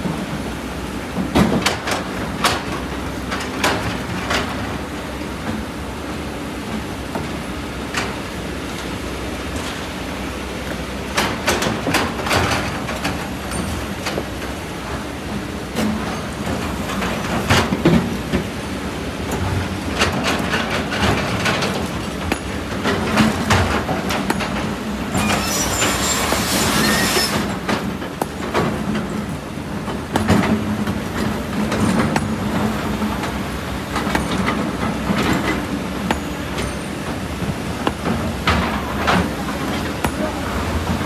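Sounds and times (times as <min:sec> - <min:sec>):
excavator diesel engine under load: 0:00.0 - 0:41.0.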